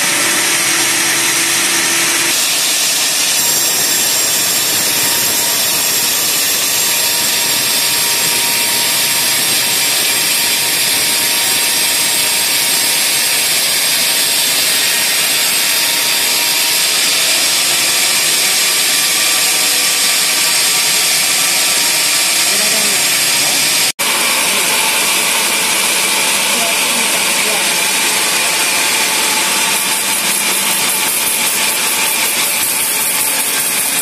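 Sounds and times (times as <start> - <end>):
band saw cutting through log: 0.0 - 34.0.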